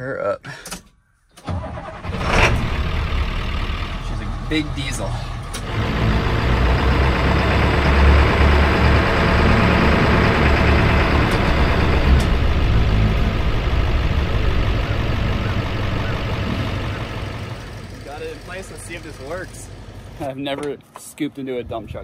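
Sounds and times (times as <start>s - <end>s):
diesel truck engine running: 1.5s - 20.3s.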